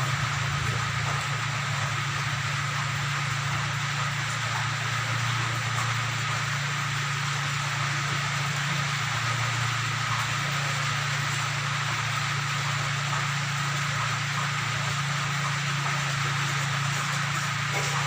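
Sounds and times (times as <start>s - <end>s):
low machine drone: 0.0s - 18.0s.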